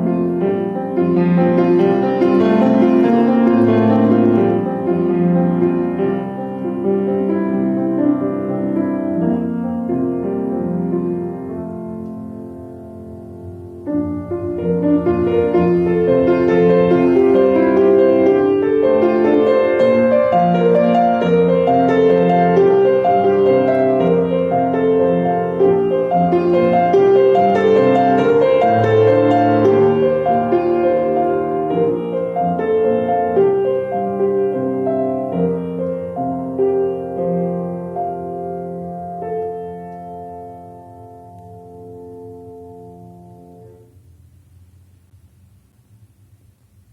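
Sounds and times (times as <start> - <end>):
solo piano piece: 0.0 - 46.9.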